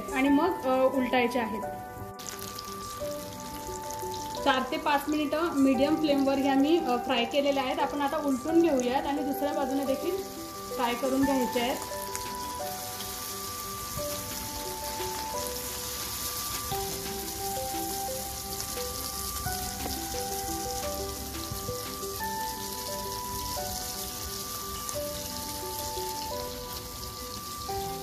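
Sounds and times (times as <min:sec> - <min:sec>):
fish sizzling in oil: 0:00.0 - 0:28.0
soft background music: 0:00.0 - 0:28.0.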